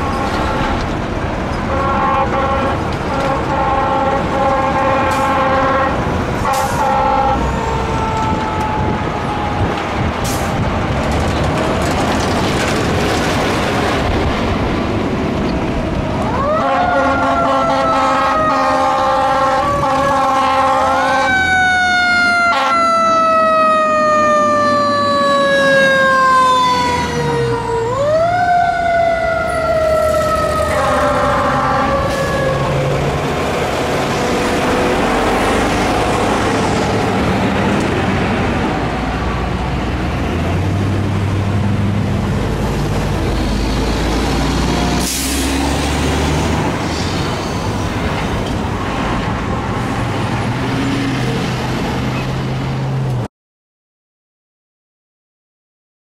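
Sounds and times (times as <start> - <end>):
diesel truck engine: 0.0 - 22.2, 23.0 - 53.3
road traffic: 0.0 - 53.3
fire engine siren wailing: 1.6 - 12.1, 15.2 - 52.4.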